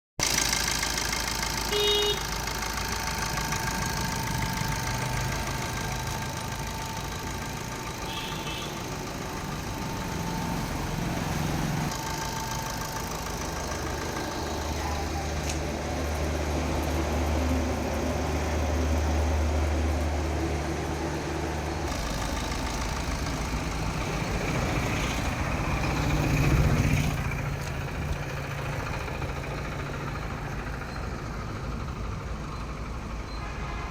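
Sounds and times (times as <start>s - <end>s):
car engine idling: 0.2s - 33.3s.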